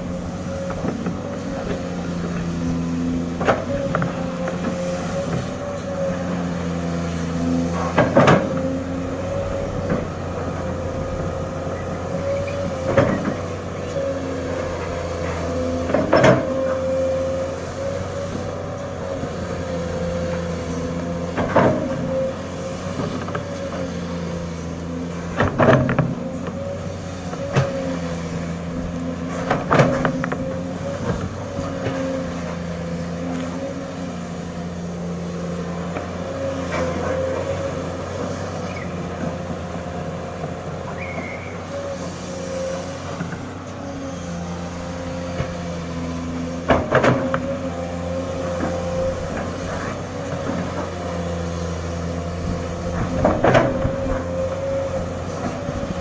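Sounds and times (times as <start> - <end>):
excavator diesel engine running: 0.0 - 56.0
hydraulic whine: 0.0 - 56.0.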